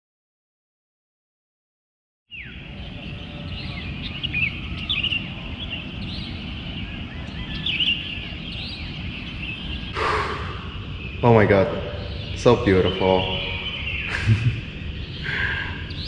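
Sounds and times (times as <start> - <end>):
birds chirping: 2.3 - 16.0
low outdoor rumble: 2.6 - 16.0.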